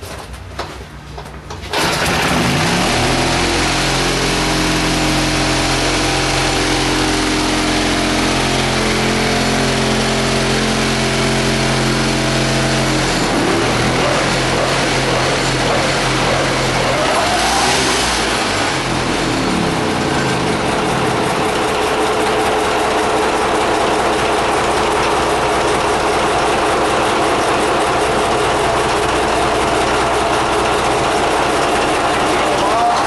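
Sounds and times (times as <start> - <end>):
diesel engine starting and running: 0.0 - 33.0.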